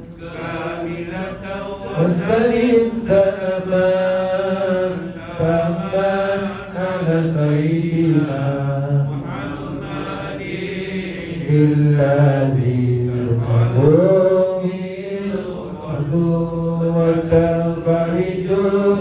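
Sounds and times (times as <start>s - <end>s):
person chanting melodically: 0.0s - 19.0s.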